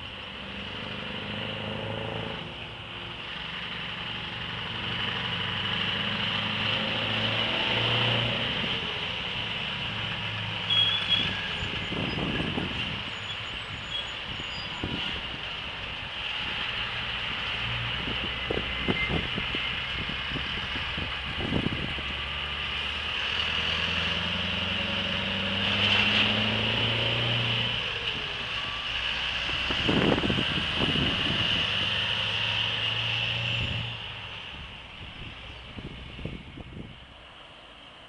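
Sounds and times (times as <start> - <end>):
truck engine pulling away: 0.0 - 38.0.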